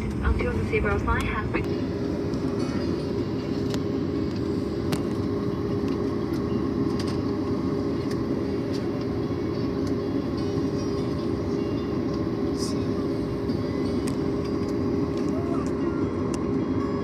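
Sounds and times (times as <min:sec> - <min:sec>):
aircraft cabin rumble: 0:00.0 - 0:17.0
constant hum: 0:00.0 - 0:17.0.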